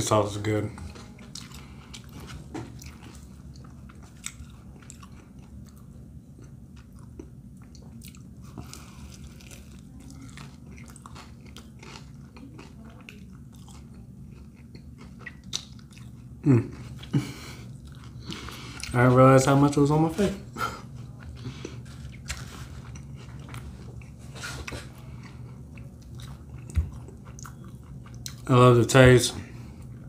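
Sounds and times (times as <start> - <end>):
bread crunching: 1.0 - 28.6.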